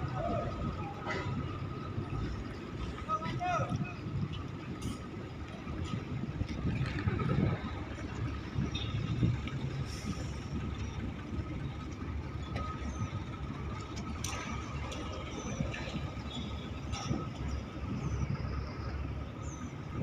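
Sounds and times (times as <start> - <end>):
ship engines rumbling: 0.0 - 20.0.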